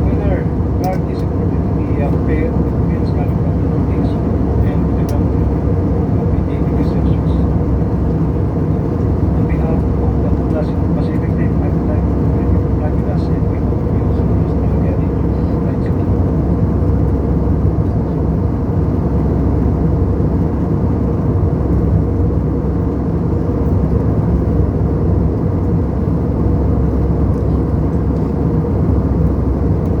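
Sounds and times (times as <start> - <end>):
airliner low rumble: 0.0 - 30.0.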